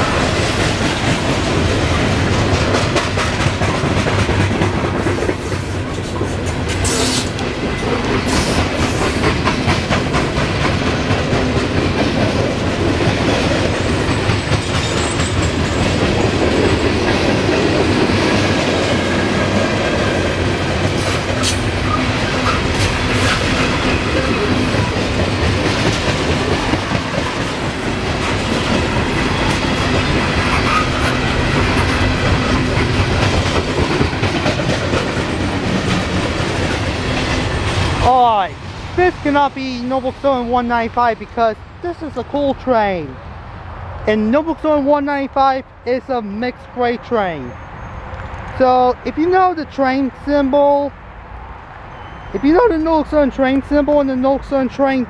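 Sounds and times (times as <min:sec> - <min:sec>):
clickety-clack over rail joints: 0:00.0 - 0:43.2, 0:48.1 - 0:50.0, 0:52.1 - 0:55.0
train wheels rumbling on rails: 0:00.0 - 0:55.0.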